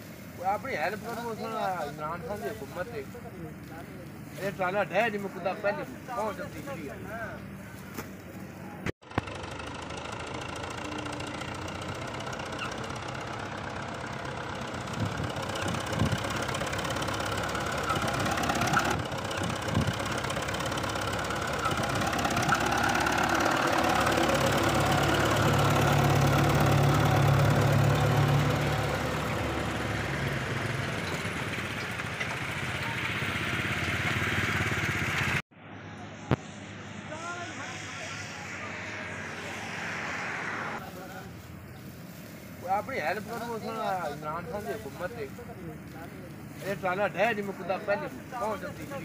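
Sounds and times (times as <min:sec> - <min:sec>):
tractor engine under load: 0:00.0 - 0:36.7, 0:40.8 - 0:49.0.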